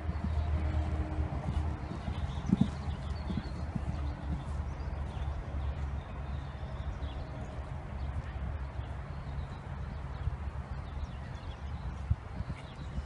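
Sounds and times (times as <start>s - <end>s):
low rumble: 0.0s - 11.3s
horse hoofbeats on sand: 0.0s - 13.0s.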